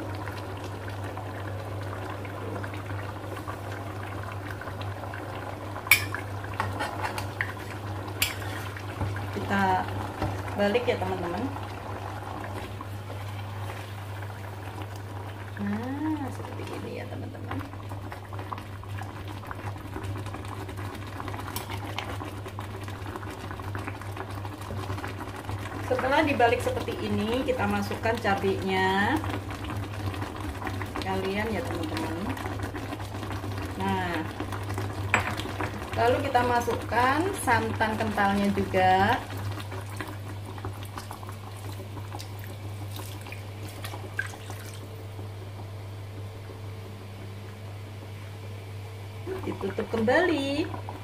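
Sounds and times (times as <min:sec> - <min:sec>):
broth bubbling: 0:00.0 - 0:51.0.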